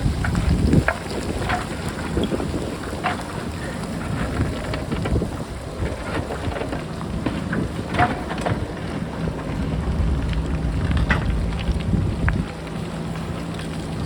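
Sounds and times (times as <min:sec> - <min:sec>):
diesel engine running: 0:00.0 - 0:14.0
rocks clattering: 0:00.0 - 0:14.0
wind rumbling on microphone: 0:00.0 - 0:14.0.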